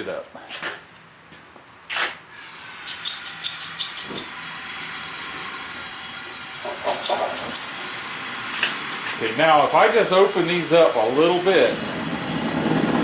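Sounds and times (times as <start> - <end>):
gas burner hissing: 2.3 - 13.0.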